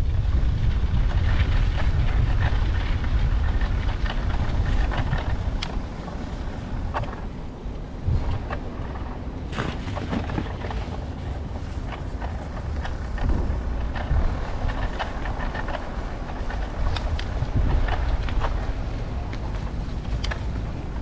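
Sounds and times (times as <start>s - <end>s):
bicycle clicks and rattles: 0.0s - 21.0s
wind buffeting microphone: 0.0s - 21.0s.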